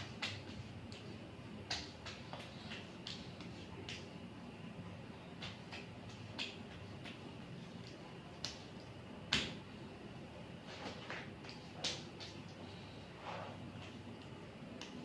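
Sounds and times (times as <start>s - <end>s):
faint room noise: 0.0s - 15.0s.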